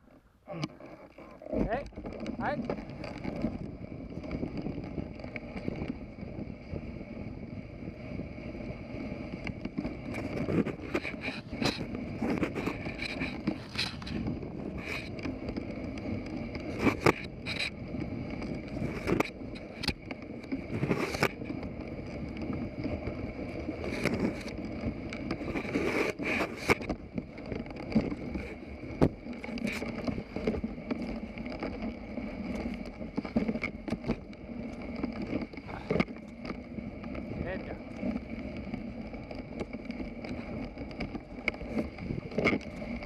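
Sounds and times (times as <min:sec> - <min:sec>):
sled runners scraping snow: 0:00.0 - 0:43.0.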